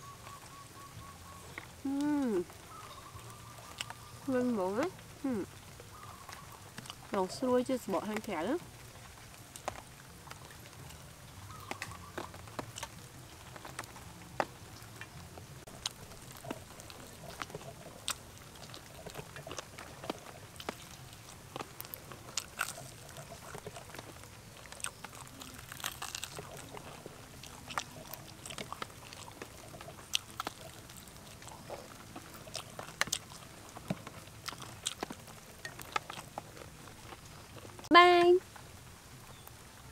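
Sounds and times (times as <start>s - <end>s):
person chewing crispy food: 1.4s - 39.6s.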